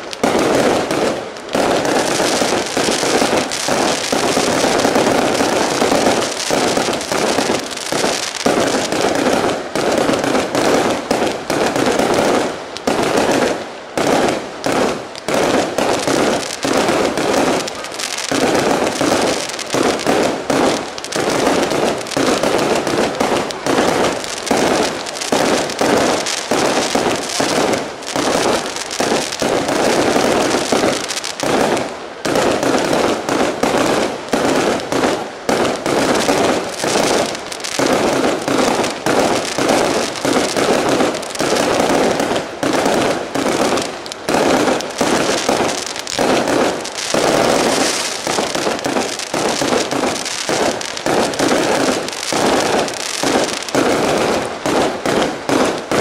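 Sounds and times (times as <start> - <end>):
firework shell bursts and bangs: 0.0 - 56.0
fireworks crackling: 0.0 - 56.0.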